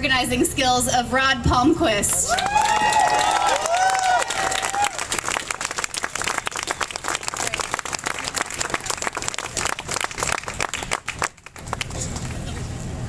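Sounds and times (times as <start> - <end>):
crowd applauding: 2.1 - 12.7.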